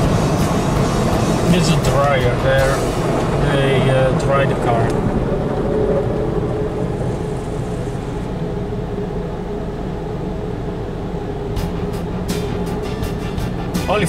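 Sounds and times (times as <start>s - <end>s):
car wash machinery drone: 0.0s - 14.0s.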